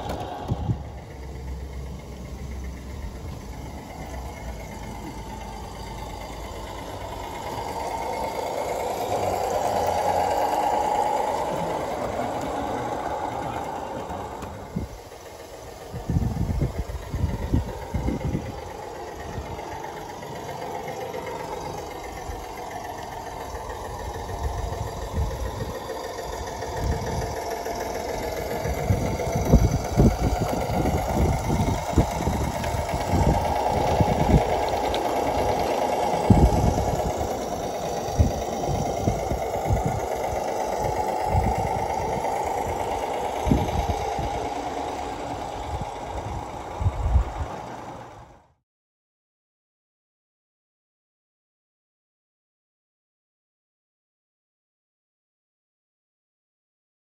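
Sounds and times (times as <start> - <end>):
model diesel locomotive running: 0.0 - 48.6.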